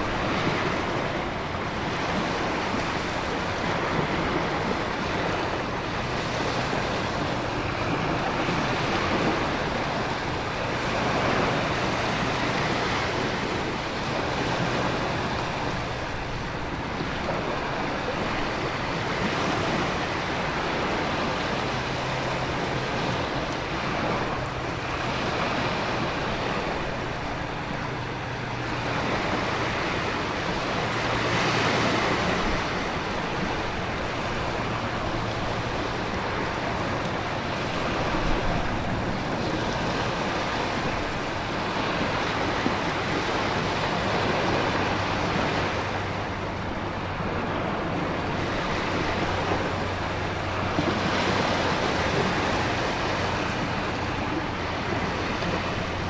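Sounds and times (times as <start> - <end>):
ocean surf: 0.0 - 56.0
wind: 0.0 - 56.0.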